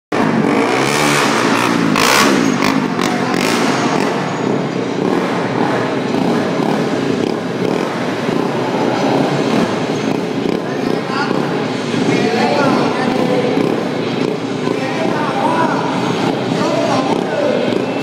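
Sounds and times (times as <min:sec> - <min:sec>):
motorcycle engine revving: 0:00.1 - 0:18.0.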